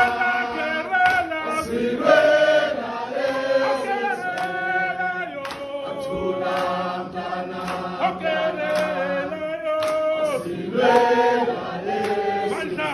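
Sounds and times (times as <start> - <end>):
man leading chanted song: 0.0 - 12.9
voices singing held notes: 0.0 - 12.9.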